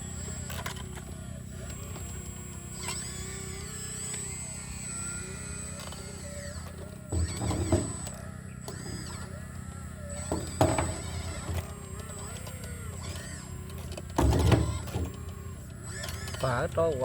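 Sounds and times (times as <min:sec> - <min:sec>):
diesel engine running: 0:00.0 - 0:17.0
wavering hydraulic whine: 0:00.0 - 0:17.0.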